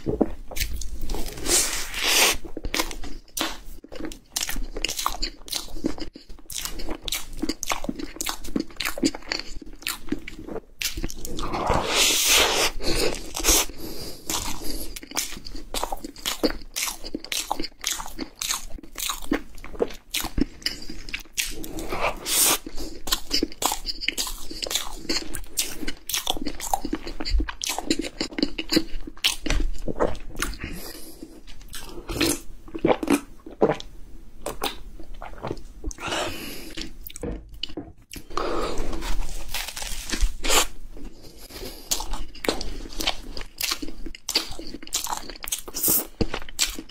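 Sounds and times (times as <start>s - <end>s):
man chewing food: 0.0s - 46.9s.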